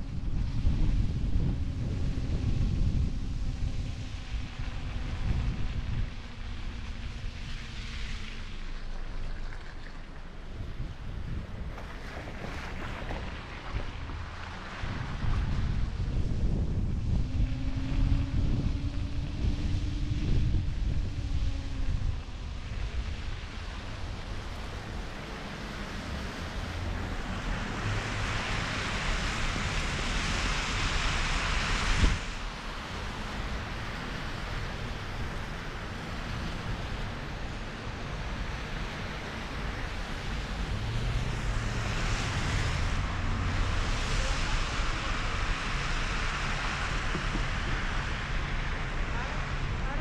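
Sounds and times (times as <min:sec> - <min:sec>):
traffic rumble: 0:00.0 - 0:50.0
wind rushing over microphone: 0:00.0 - 0:50.0
tyres hissing on wet street: 0:00.1 - 0:50.0.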